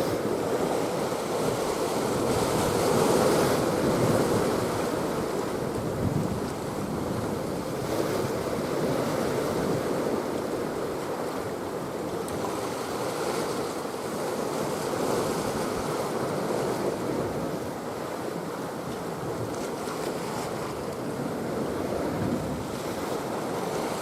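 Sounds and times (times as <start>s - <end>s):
sea waves: 0.0s - 24.0s.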